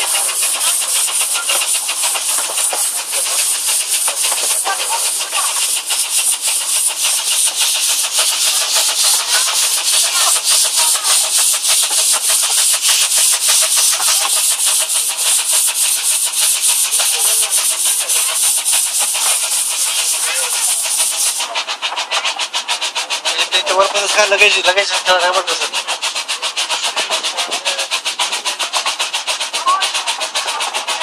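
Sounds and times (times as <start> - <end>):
miniature train running: 0.0 - 31.0.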